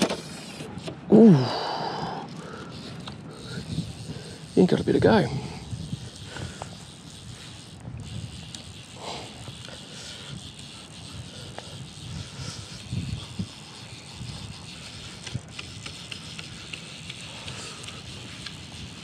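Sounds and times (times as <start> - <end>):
fly reel clicking: 0.0 - 19.0.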